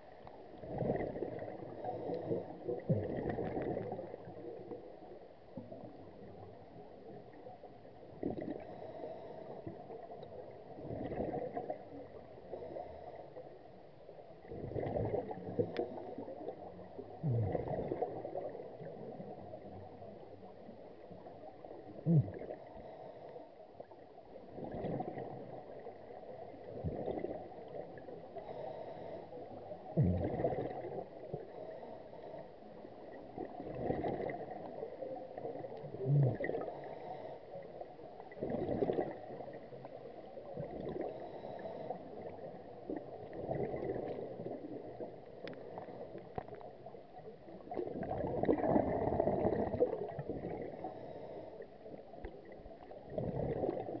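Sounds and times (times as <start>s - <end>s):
underwater exhaled bubbles gurgling: 0.0s - 54.0s.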